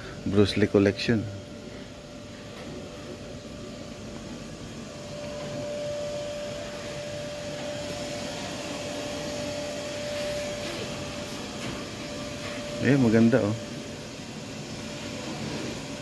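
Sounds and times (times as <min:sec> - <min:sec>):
blower machine whining: 0:00.0 - 0:16.0.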